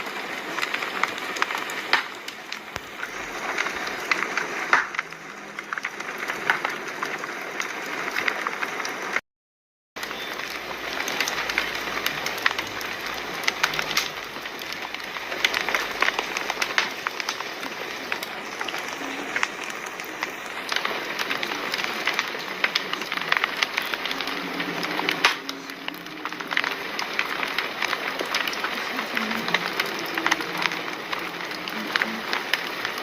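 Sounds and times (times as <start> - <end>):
fire hissing: 0.0 - 9.2, 10.0 - 33.0
fire popping and snapping: 0.0 - 9.2, 10.0 - 33.0.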